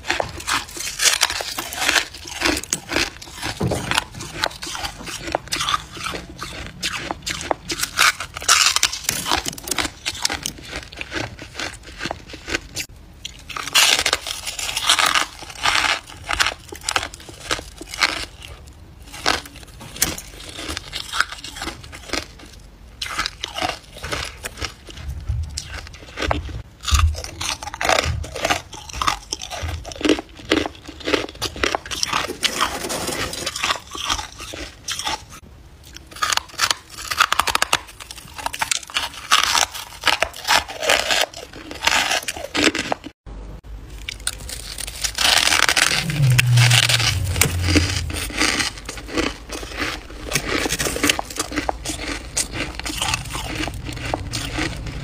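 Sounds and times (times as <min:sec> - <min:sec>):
crunching and chewing ice: 0:00.0 - 0:43.2, 0:43.8 - 0:55.0.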